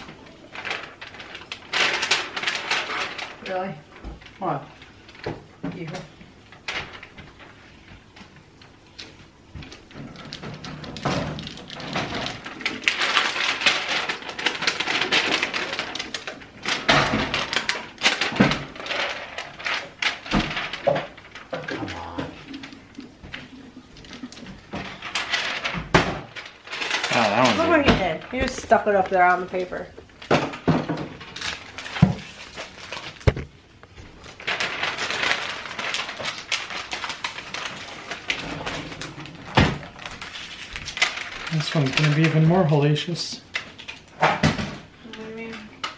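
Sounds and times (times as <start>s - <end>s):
plastic sheets crackling and rustling: 0.0s - 45.9s.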